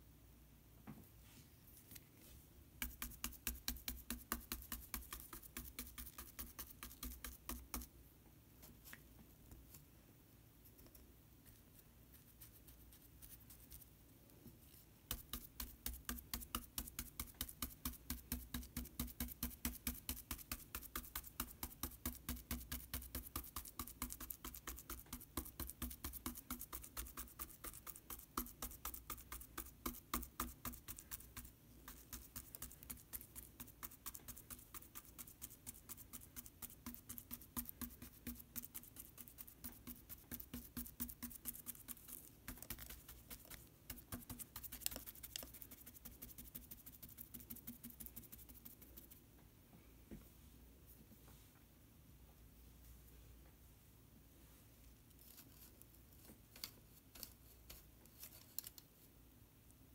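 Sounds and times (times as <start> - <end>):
paintbrush dabbing paint: 1.8 - 8.0, 10.6 - 49.3, 55.2 - 58.9.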